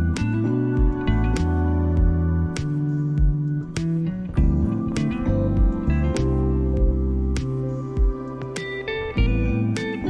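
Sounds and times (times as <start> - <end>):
plucked guitar-like notes: 0.0 - 10.0.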